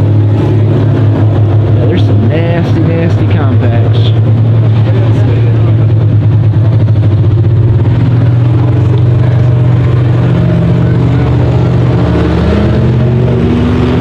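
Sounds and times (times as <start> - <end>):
car engines droning: 0.0 - 14.0
engine speeding up: 0.0 - 14.0.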